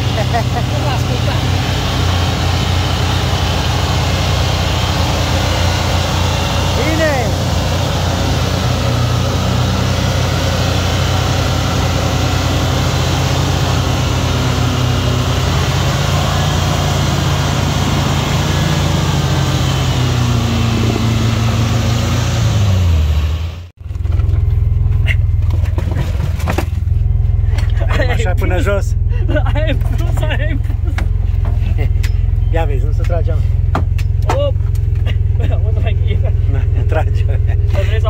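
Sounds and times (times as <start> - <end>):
engine running: 0.0 - 38.0
low engine hum: 0.0 - 38.0.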